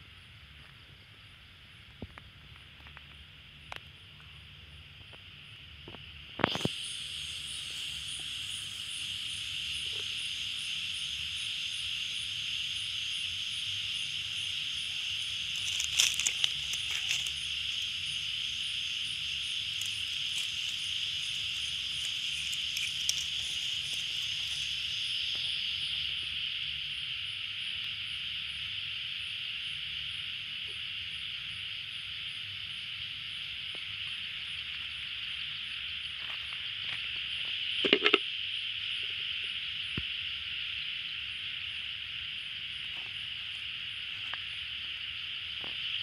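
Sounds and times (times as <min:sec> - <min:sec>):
insect buzz: 0:00.0 - 0:46.0.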